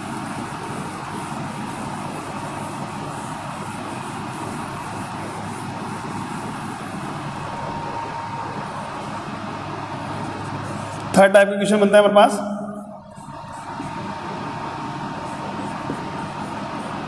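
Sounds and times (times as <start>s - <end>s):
duster wiping whiteboard: 0.0s - 11.5s, 13.0s - 17.0s
steady background rumble: 2.7s - 17.0s.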